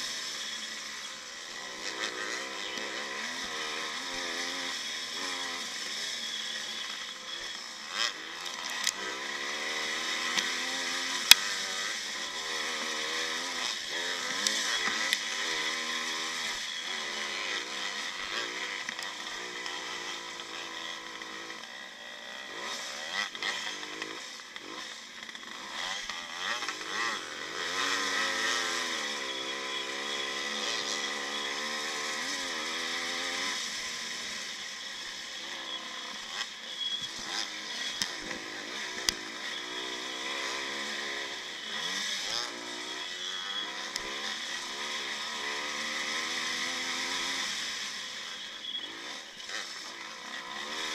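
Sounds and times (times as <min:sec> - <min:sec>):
two-stroke motorcycle engine revving: 0:00.0 - 0:50.9.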